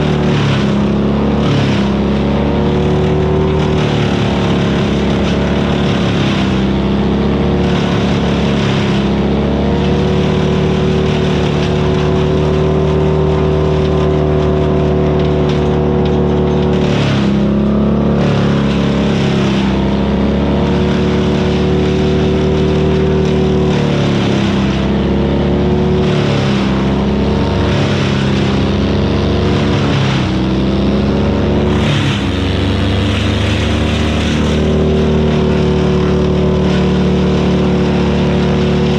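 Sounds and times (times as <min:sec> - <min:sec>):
wood chipper engine running hard: 0:00.0 - 0:38.9.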